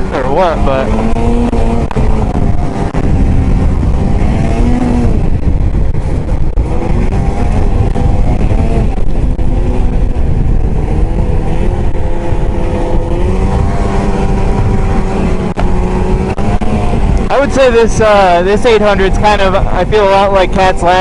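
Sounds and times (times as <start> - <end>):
snowmobile engine under throttle: 0.0 - 21.0.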